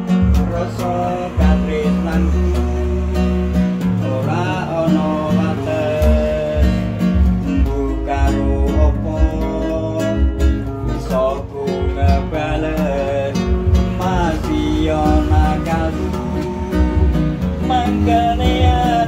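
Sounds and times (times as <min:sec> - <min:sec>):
acoustic guitar strumming: 0:00.0 - 0:19.0
man singing: 0:00.0 - 0:19.0.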